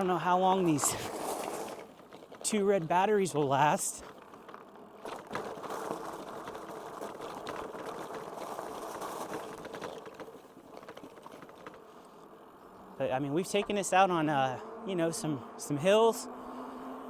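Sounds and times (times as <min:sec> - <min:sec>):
bike tyres rushing: 0:00.0 - 0:17.0.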